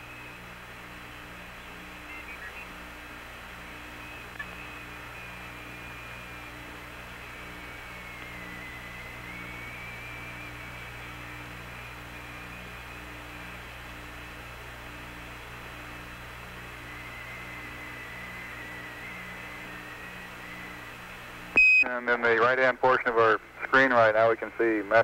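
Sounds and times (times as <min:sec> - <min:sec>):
radio link hum with hiss: 0:00.0 - 0:25.0.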